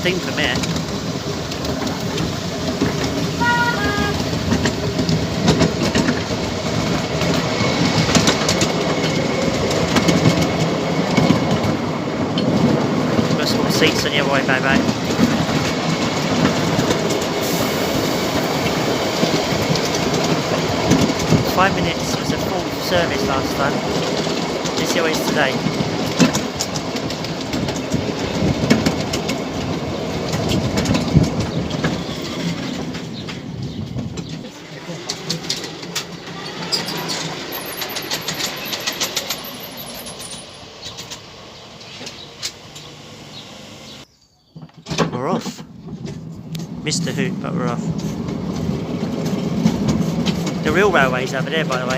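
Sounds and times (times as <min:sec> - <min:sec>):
train wheels on rails: 0:00.0 - 0:51.9.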